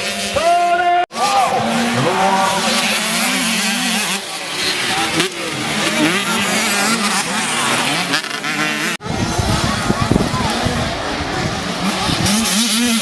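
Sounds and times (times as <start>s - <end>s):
crowd noise: 0.0s - 13.0s
motorcycle engines revving: 0.0s - 13.0s.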